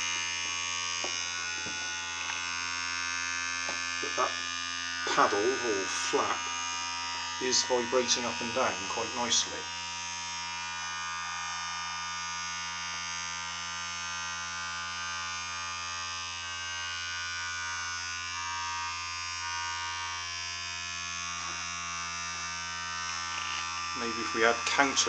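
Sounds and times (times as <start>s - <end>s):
vibration motor buzzing: 0.0s - 25.0s.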